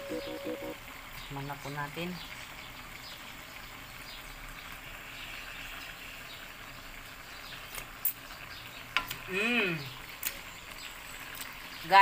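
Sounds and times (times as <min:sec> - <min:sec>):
birds chirping faintly: 0:00.0 - 0:12.0
food simmering in a wok: 0:00.0 - 0:12.0.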